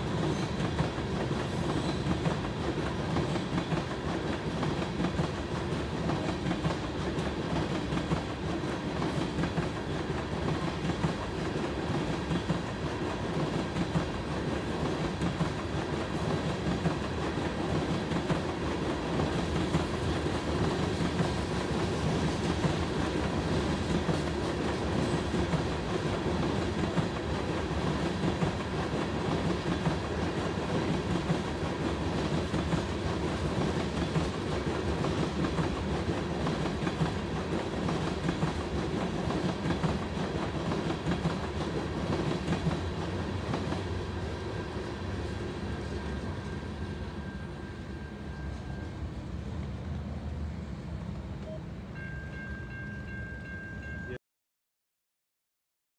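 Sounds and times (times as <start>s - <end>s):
freight train rolling past: 0.0s - 54.2s.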